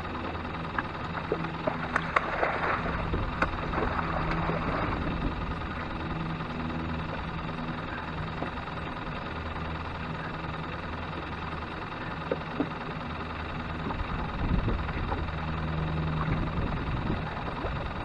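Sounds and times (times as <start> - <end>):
outboard boat engine droning: 0.0 - 18.0.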